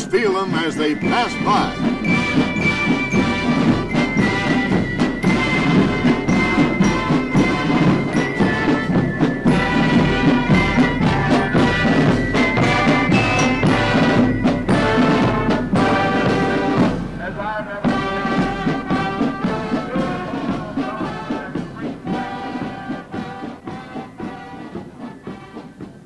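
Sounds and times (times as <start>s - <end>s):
brass instruments: 0.0s - 26.0s
marching band playing: 0.0s - 26.0s
steady drum beat: 0.0s - 26.0s.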